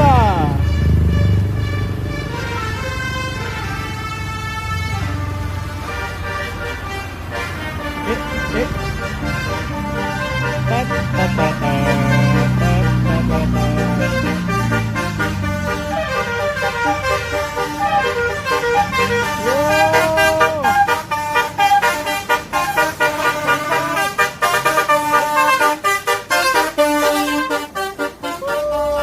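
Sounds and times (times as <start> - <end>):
bus musical horn tune: 0.0 - 29.0
long horn blast: 0.0 - 29.0.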